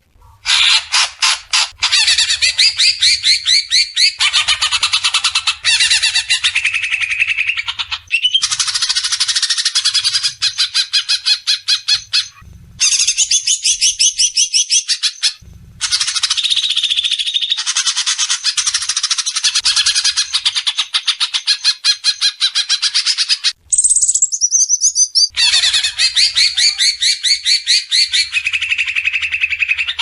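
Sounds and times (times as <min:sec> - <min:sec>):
songbird singing chattering notes: 0:01.6 - 0:30.0.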